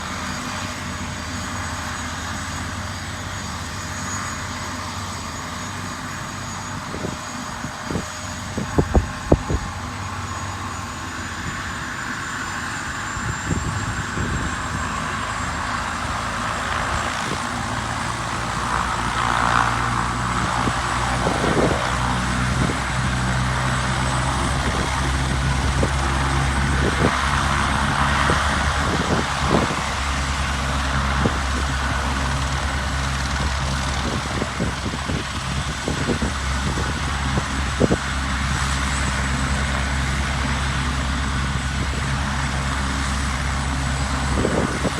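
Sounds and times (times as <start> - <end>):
gusty wind on microphone: 5.4 - 44.9.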